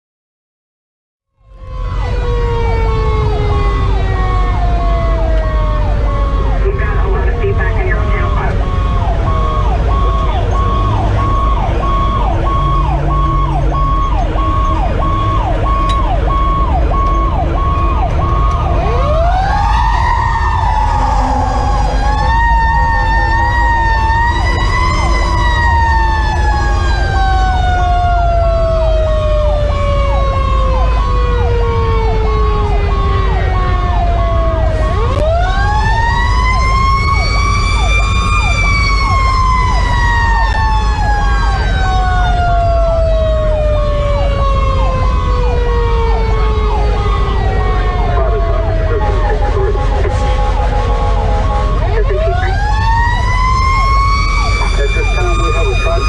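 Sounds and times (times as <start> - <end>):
engine and road rumble: 1.3 - 56.0
electronic siren yelping: 1.4 - 56.0
wailing siren winding up: 1.4 - 56.0.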